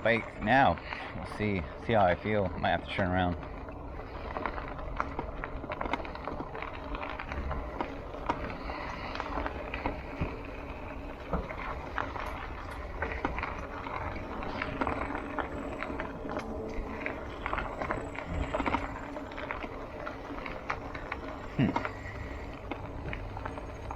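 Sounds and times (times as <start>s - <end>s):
bicycle tyres crunching on dirt: 0.0s - 23.9s
low rumble: 0.0s - 23.9s.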